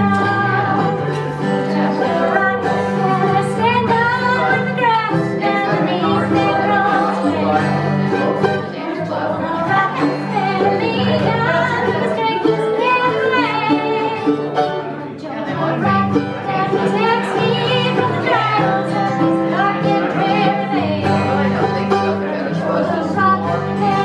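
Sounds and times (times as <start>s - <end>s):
mandolin: 0.0s - 24.0s
strummed acoustic guitar: 0.0s - 24.0s
woman singing: 0.0s - 24.0s.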